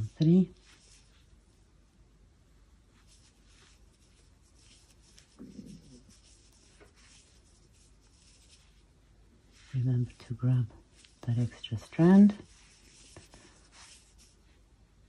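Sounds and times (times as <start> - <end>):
yarn scratching and rubbing: 0.0 - 1.8, 2.8 - 14.6.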